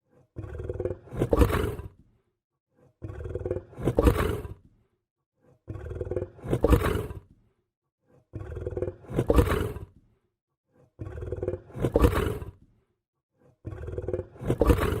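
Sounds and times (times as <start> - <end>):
lion growling: 0.0 - 2.1, 2.7 - 4.8, 5.4 - 15.0.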